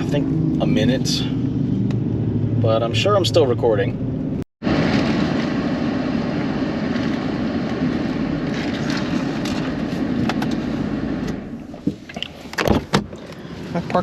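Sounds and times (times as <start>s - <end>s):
road and engine noise inside truck: 0.0s - 14.0s.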